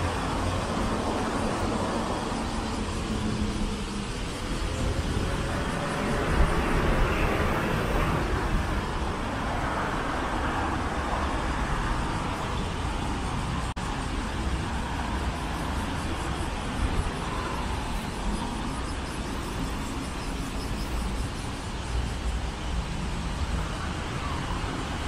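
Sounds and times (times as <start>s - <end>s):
road traffic noise: 0.0s - 25.0s
vehicles passing: 0.0s - 25.0s.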